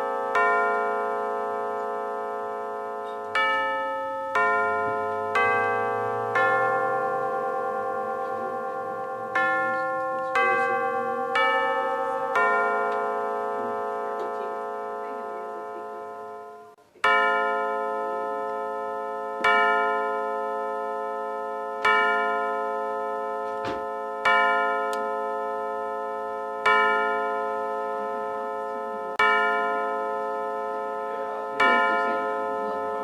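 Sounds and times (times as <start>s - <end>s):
deep clock chime strikes: 0.0s - 33.0s.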